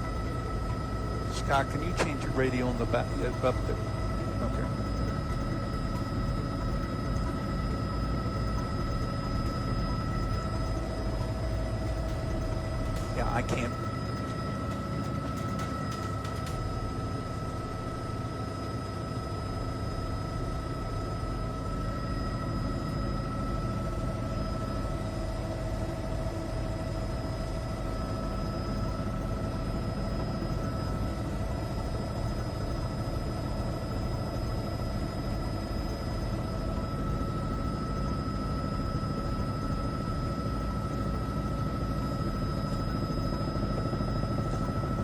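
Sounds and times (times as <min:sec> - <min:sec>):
helicopter drone from cabin: 0:00.0 - 0:45.0
high-pitched whine: 0:00.0 - 0:45.0.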